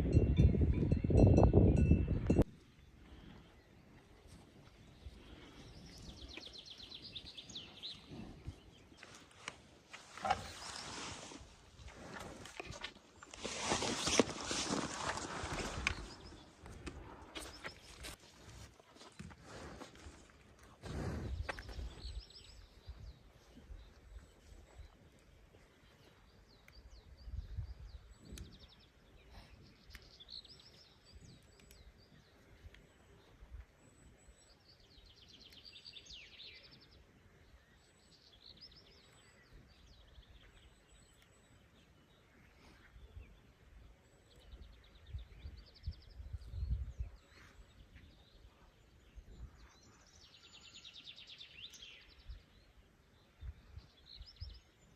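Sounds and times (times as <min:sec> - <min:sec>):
songbirds singing: 0:00.1 - 0:18.2, 0:20.6 - 0:54.9.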